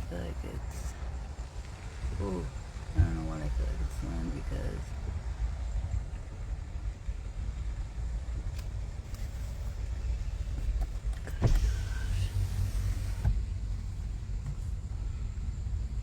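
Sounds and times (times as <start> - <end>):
car road rumble inside cabin: 0.0 - 16.0.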